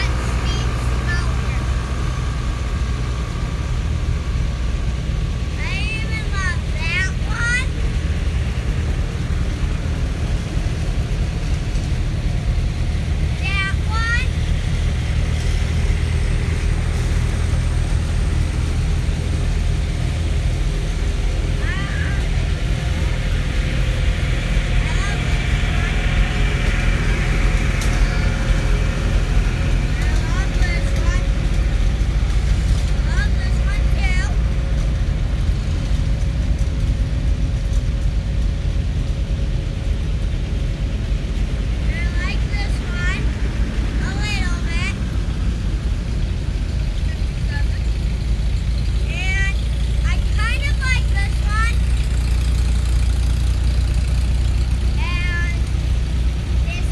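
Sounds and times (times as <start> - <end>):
tractor engines rumbling: 0.0 - 56.9.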